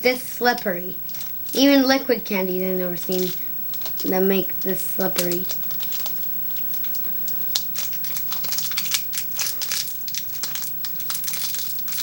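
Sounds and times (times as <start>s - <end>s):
candy wrapper crinkling: 0.8s - 12.0s.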